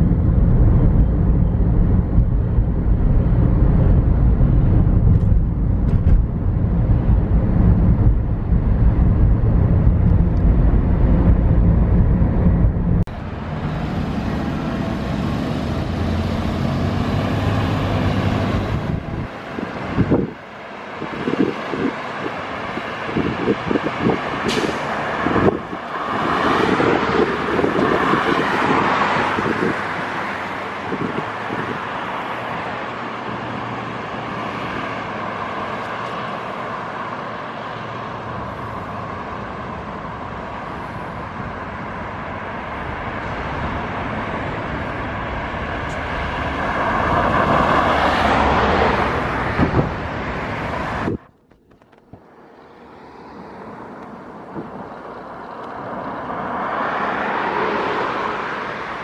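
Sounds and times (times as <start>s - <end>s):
wind buffeting microphone: 0.0s - 32.7s, 39.6s - 52.4s, 53.5s - 56.3s
cars driving by: 0.0s - 59.0s.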